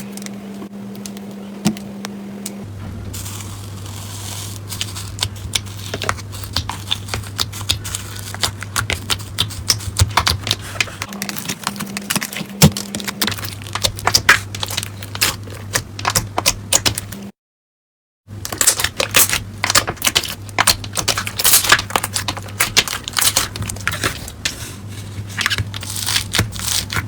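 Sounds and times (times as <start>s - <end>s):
steady low hum: 0.0s - 17.3s, 18.3s - 27.0s.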